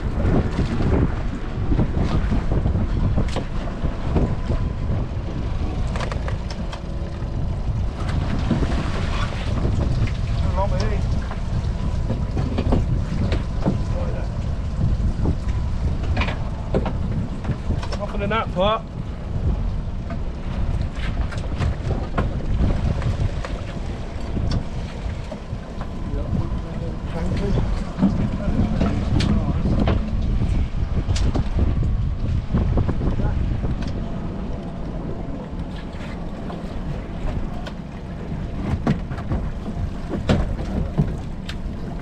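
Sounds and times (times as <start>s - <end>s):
boat engine running: 0.0s - 42.0s
wind rumbling on microphone: 0.0s - 42.0s.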